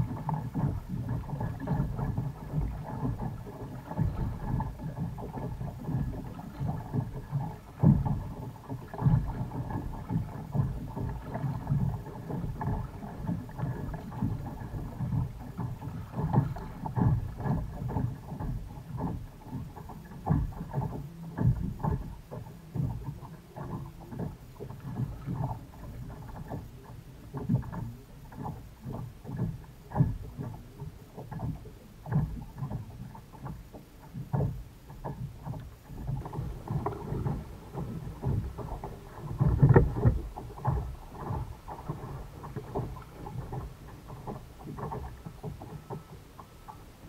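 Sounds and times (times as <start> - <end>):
waves slapping against kayak hull: 0.0 - 47.0.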